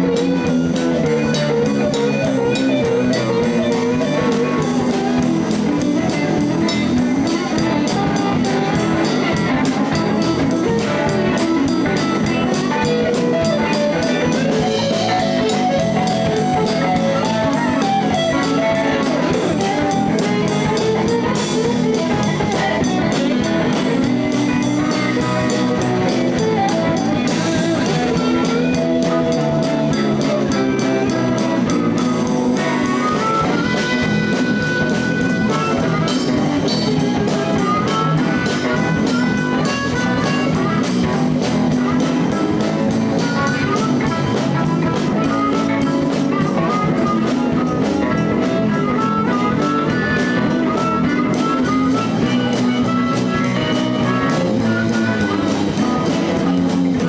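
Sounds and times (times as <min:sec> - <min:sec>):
bass groove: 0:00.0 - 0:57.0
drum kit: 0:00.0 - 0:57.0
electric guitar: 0:00.0 - 0:57.0.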